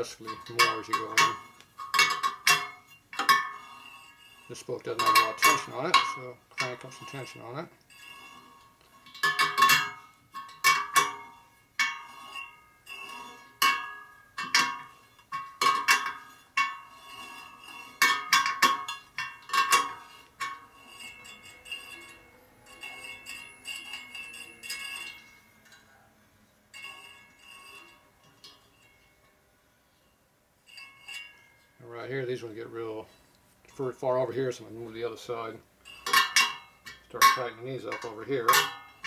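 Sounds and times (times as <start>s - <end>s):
spoke wrench clinking on spokes: 0.0s - 26.0s, 26.7s - 29.4s, 30.7s - 31.8s, 33.1s - 39.0s.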